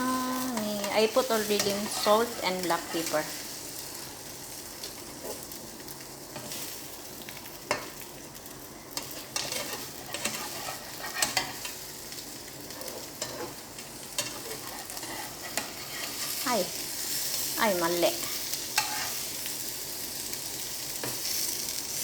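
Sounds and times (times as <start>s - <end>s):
omelette sizzling in a pan: 0.0s - 22.0s.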